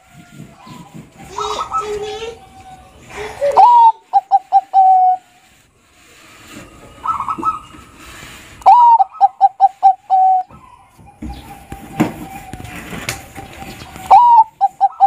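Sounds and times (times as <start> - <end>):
dove cooing: 0.5 - 2.3, 3.4 - 5.5, 6.6 - 15.0.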